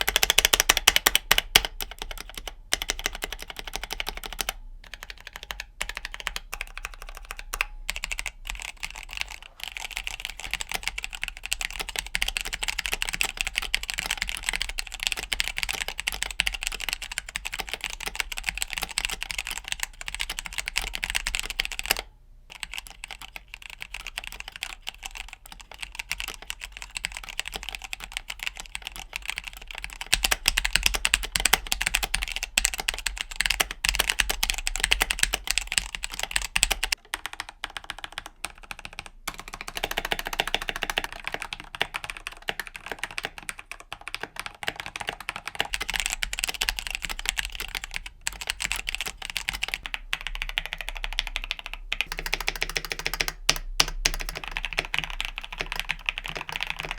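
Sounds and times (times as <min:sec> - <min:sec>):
typing on mechanical keyboard: 0:00.0 - 0:56.9.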